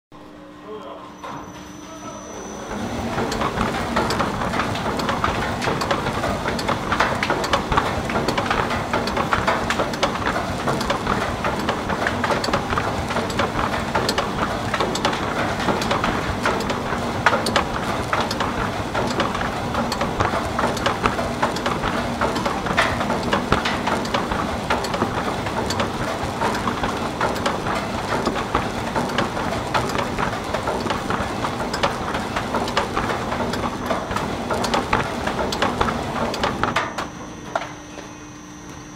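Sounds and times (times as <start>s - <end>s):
faint machine hum: 0.2s - 38.9s
milling machine crackling and rattling: 2.7s - 37.9s.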